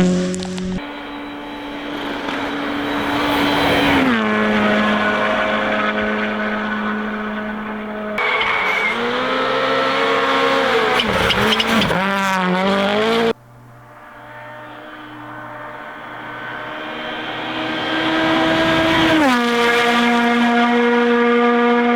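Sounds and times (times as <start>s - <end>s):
rally car engine revving: 0.0s - 13.4s, 14.1s - 21.9s
car approaching: 0.0s - 21.9s.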